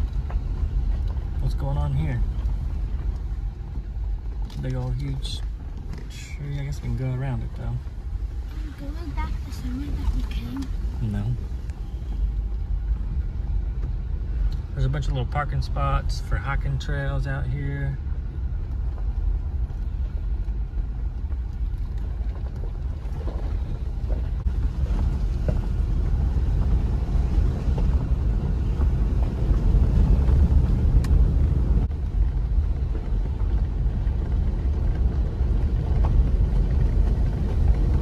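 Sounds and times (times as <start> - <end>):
engine and tyres rumbling: 0.0 - 38.0.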